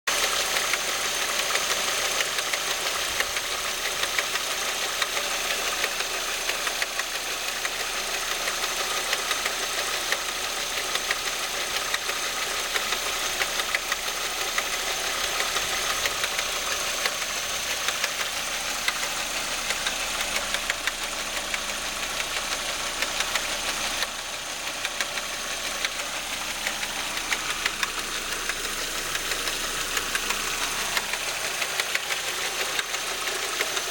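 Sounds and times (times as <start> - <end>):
car engine idling: 0.1 - 33.9
rapid ticking rattle: 0.1 - 33.9.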